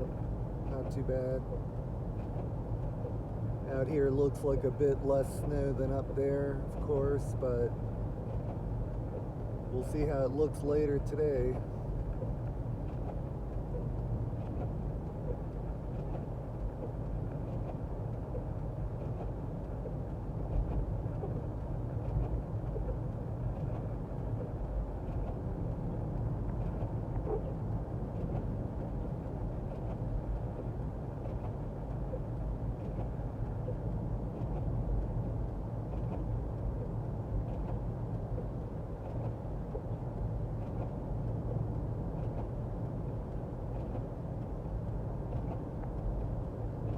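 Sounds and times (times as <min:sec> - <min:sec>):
car driving on wet road: 0:00.0 - 0:46.9
faint ticks: 0:08.3 - 0:46.9.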